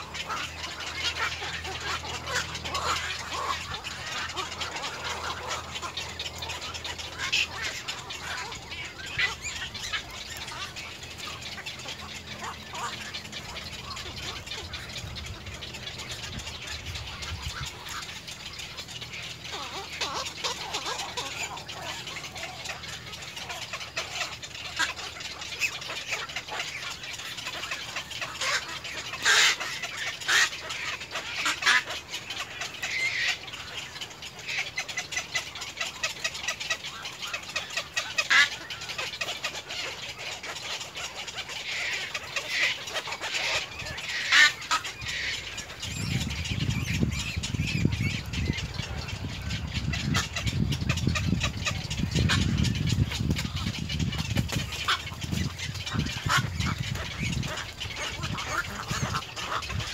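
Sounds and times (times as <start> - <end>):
birds squawking: 0.0 - 59.9.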